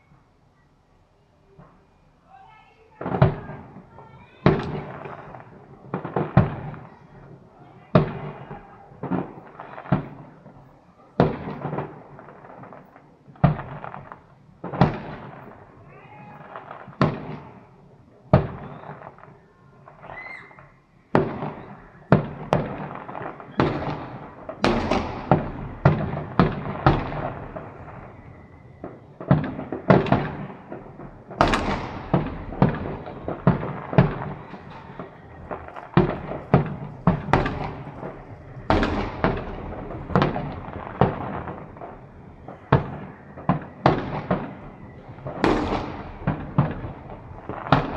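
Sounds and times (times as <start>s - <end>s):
fireworks bursting with echo: 1.4s - 47.9s.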